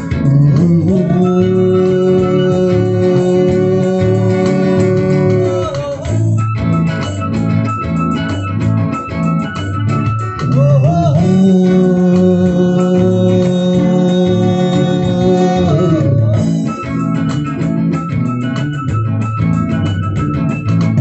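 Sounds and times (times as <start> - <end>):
bass guitar: 0.0 - 21.0
drums: 0.0 - 21.0
organ chords: 0.0 - 21.0.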